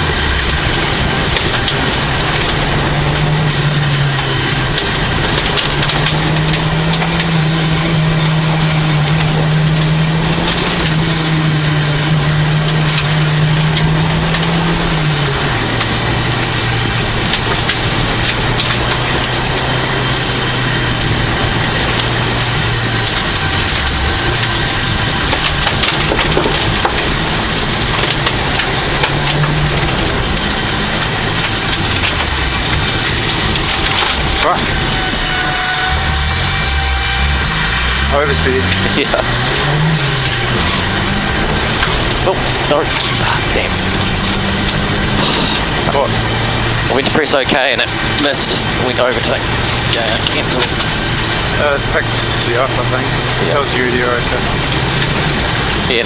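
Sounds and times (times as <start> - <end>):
car engine running hard: 0.0 - 56.0
road noise: 0.0 - 56.0.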